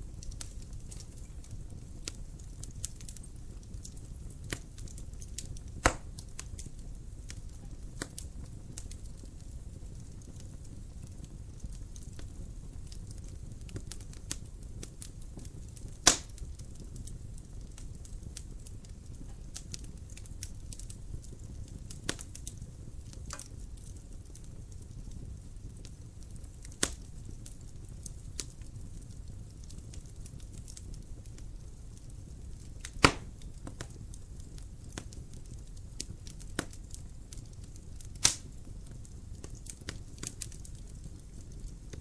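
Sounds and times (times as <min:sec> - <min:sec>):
loud fire pops: 0:00.0 - 0:42.0
wood fire crackling: 0:00.0 - 0:42.0.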